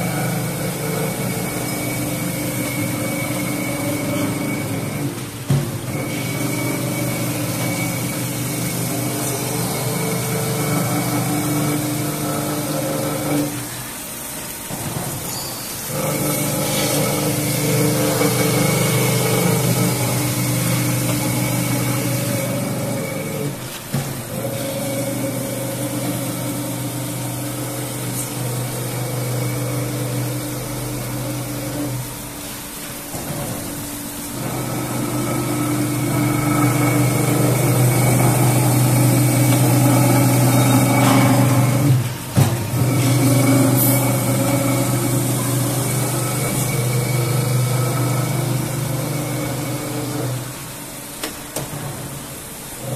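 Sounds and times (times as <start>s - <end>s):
grinding machine humming: 0.0s - 52.9s.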